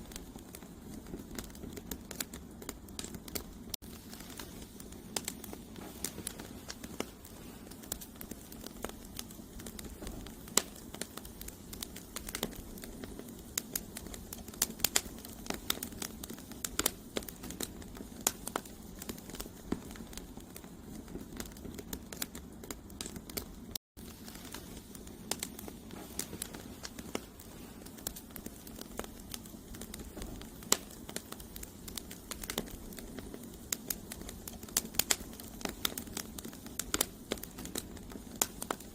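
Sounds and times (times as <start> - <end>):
firewood popping and crackling: 0.0 - 38.9
flames rushing: 0.0 - 38.9.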